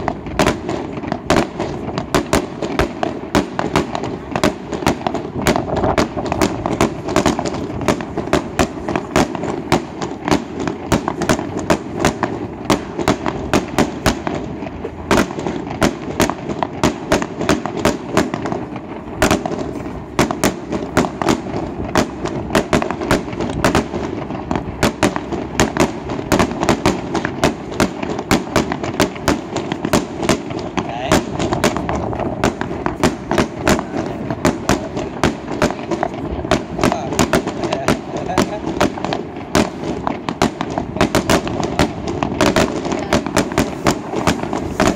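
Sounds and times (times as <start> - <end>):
fireworks bursting: 0.0 - 44.9.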